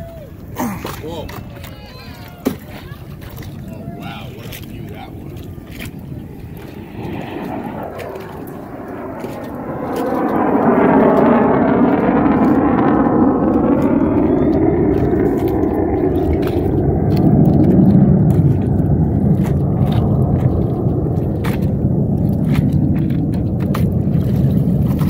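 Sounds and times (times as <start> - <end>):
fighter jet flying past: 3.5 - 25.0.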